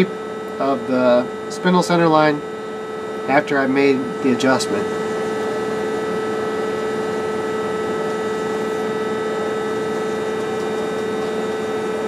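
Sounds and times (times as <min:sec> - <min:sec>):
machine hum with whine: 0:00.0 - 0:12.0.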